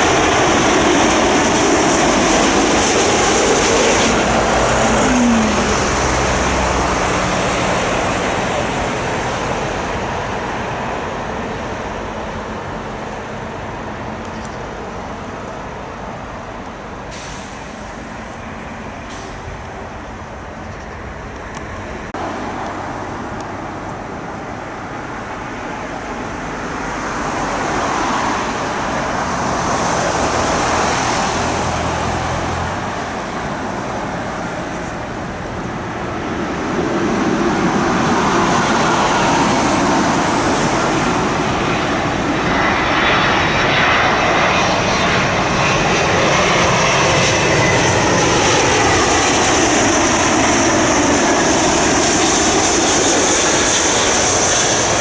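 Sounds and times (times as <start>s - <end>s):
jet airliner landing: 0.0s - 55.0s.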